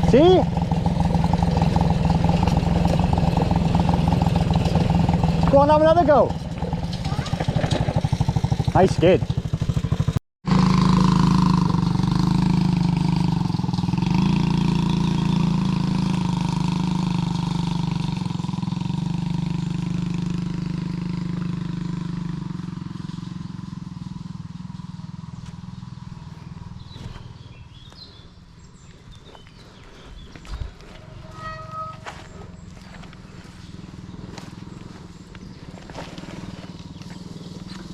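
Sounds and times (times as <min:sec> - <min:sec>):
quad bike engine running: 0:00.0 - 0:37.9.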